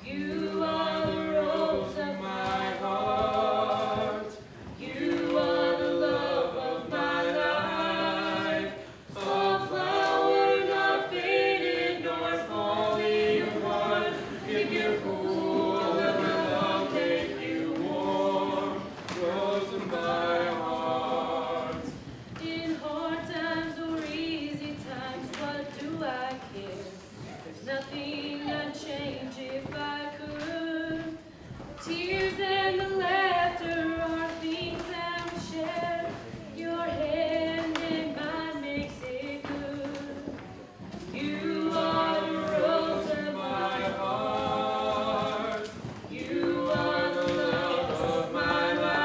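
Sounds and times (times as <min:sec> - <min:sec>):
vocal group singing a cappella: 0:00.0 - 0:49.0.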